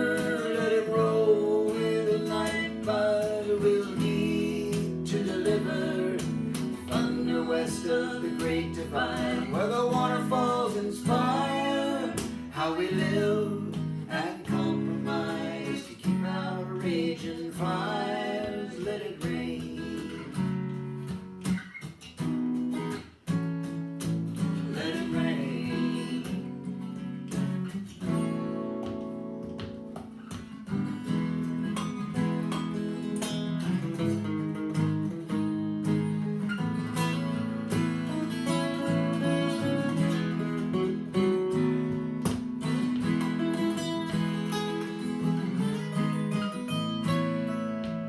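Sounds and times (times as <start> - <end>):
acoustic guitar strumming chords: 0.0 - 48.0.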